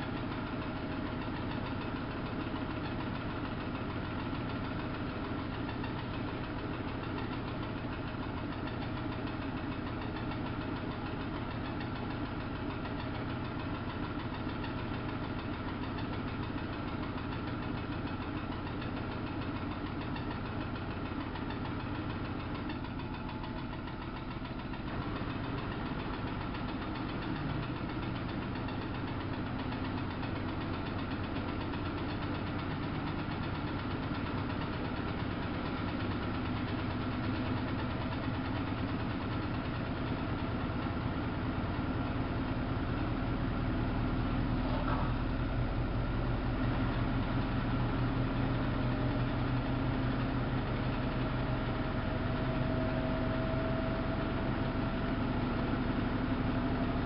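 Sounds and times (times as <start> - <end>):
washing machine hum: 0.0 - 57.0.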